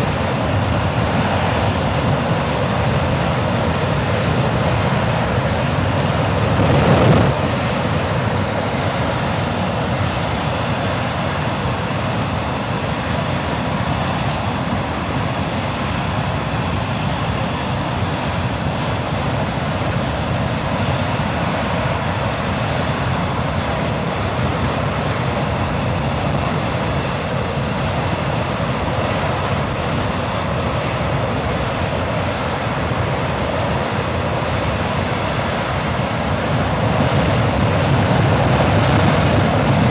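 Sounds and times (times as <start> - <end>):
jet engine running steadily: 0.0 - 39.9.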